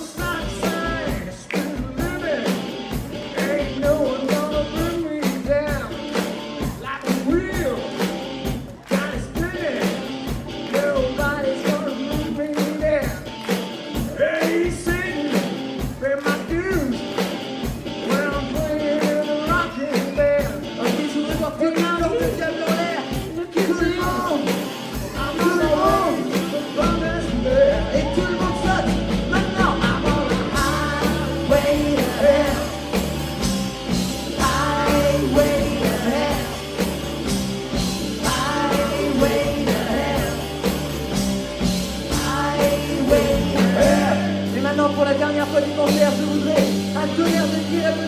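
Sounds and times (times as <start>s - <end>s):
bass line: 0.0s - 48.0s
rock and roll song with singing: 0.0s - 48.0s.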